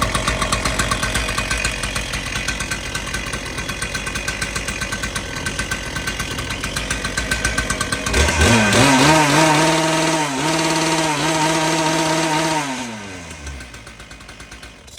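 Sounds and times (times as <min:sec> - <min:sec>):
engine cutter revving: 0:00.0 - 0:14.9.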